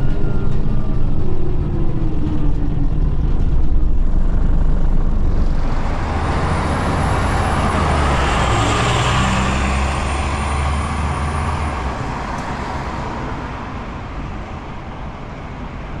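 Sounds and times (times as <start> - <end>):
diesel bus pulling away: 0.0 - 16.0
high whine: 0.0 - 16.0.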